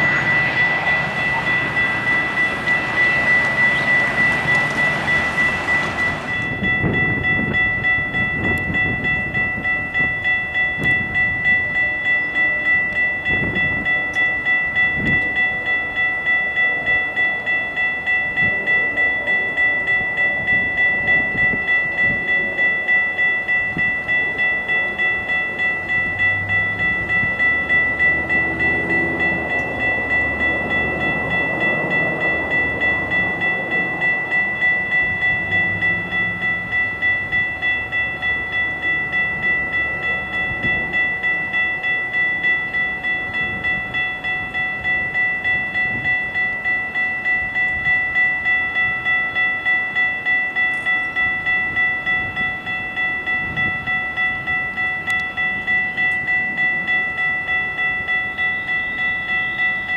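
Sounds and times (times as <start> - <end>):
railroad warning bell ringing: 0.0 - 59.9
train cars rumbling: 0.0 - 59.9.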